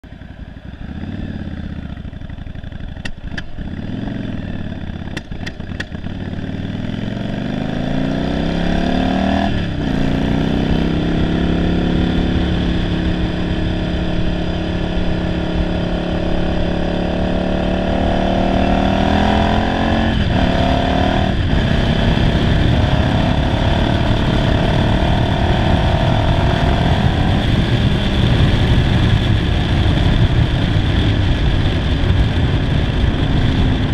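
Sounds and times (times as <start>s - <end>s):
motorcycle engine accelerating: 0.0s - 33.9s
wind over microphone: 6.0s - 33.9s.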